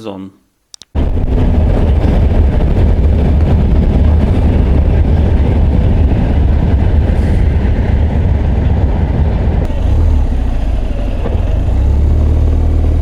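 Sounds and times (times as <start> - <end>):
wind rushing over microphone: 0.9 - 13.0
motorcycle engine: 1.0 - 13.0.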